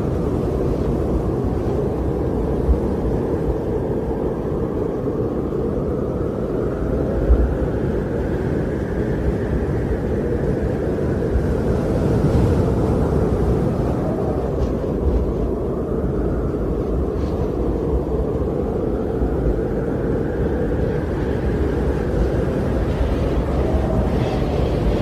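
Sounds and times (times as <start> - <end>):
wind blowing: 0.0 - 25.0.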